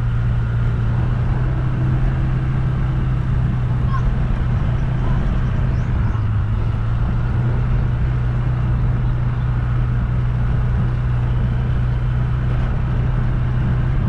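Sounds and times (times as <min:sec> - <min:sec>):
road and wind noise: 0:00.0 - 0:14.0
vehicle engine low drone: 0:00.0 - 0:14.0.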